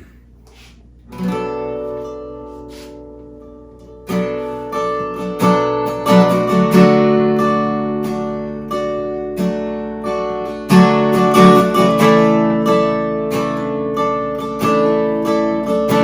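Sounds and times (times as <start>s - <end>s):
acoustic guitar strumming chords: 0.5s - 16.0s.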